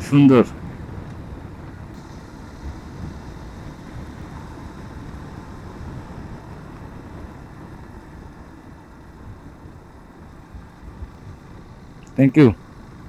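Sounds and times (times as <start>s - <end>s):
motorcycle running on road: 0.0s - 13.0s.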